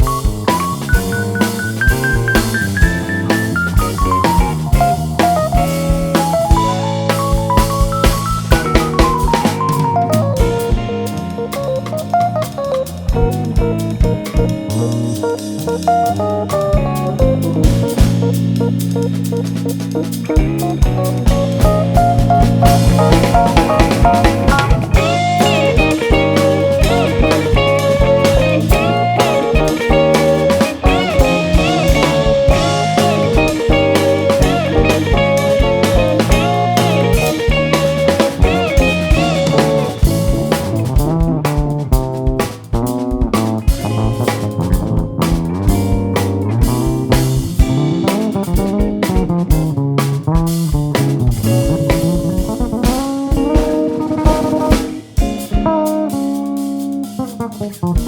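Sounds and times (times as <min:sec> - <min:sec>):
bass: 0:00.0 - 0:58.0
drum kit: 0:00.0 - 0:58.0
electric guitar lines: 0:00.0 - 0:58.0.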